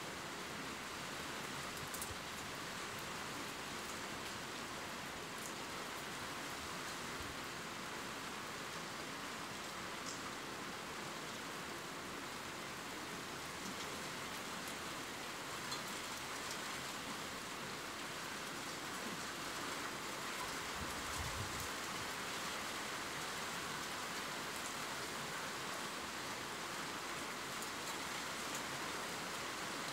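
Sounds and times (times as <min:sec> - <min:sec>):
steady rain hiss: 0:00.0 - 0:29.9.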